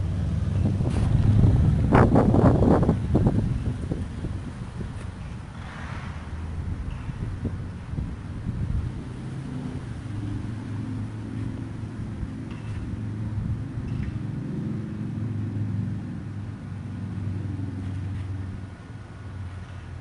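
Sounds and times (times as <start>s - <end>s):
machinery engine humming: 0.0s - 20.0s.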